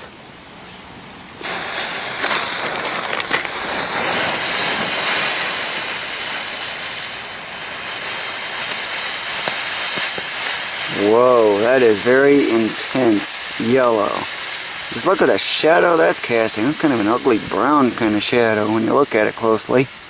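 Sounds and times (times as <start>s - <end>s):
firework hissing: 1.1s - 20.0s.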